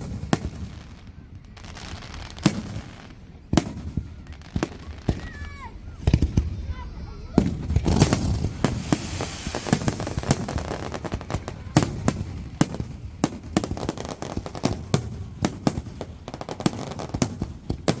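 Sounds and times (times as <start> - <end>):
fireworks bangs and pops: 0.0 - 18.0
fireworks crackling: 0.0 - 18.0.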